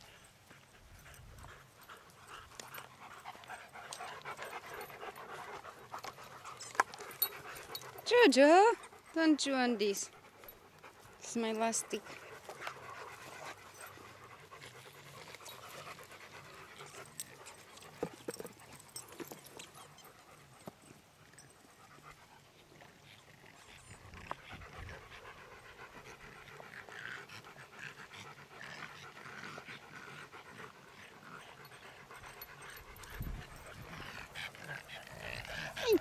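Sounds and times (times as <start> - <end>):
dog panting: 0.0 - 36.0.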